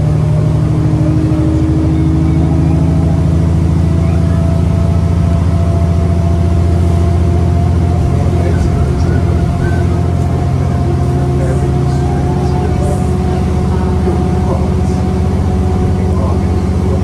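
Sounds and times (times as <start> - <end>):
bus diesel engine under load: 0.0 - 17.0.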